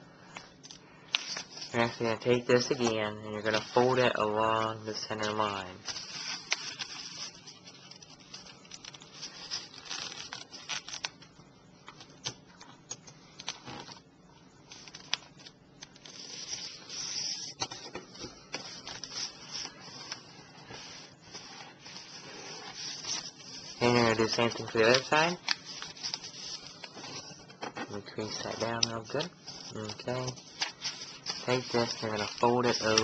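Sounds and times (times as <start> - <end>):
paper being folded: 1.1 - 11.2, 14.7 - 33.0.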